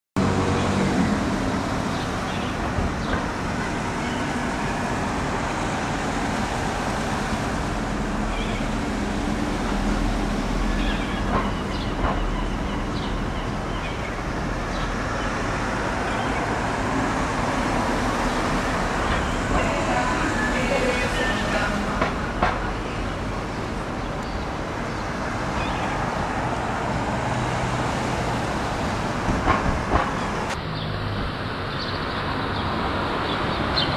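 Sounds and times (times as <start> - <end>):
street traffic rumble: 0.2 - 33.9.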